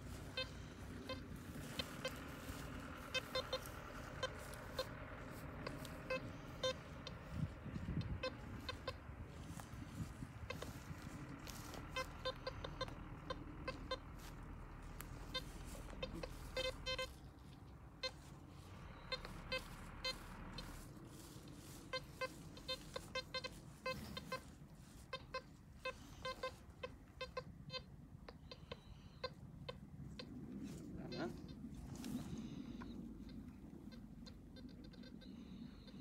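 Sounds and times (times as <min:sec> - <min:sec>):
metal detector beeps: 0:00.0 - 0:29.4.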